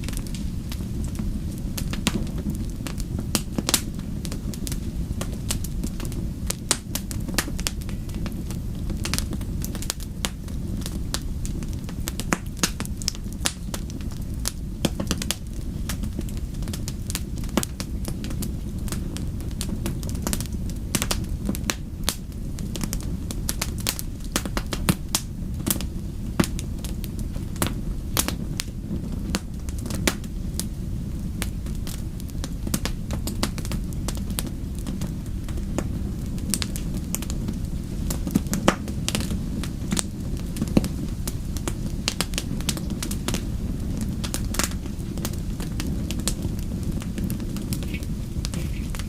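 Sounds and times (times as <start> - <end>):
fire crackles and pops: 0.0 - 49.0
low rumble of flames: 0.0 - 49.0.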